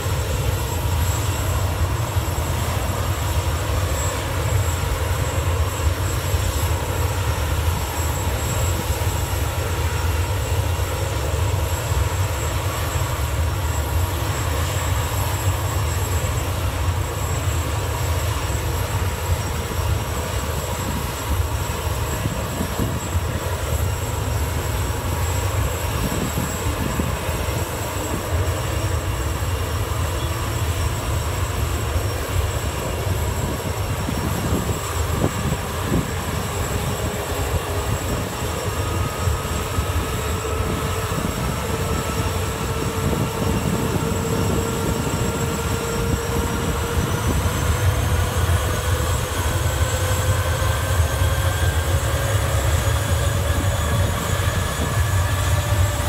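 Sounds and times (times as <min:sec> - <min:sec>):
helicopter rotor beat: 0:00.0 - 0:56.0
turbine whine: 0:00.0 - 0:56.0.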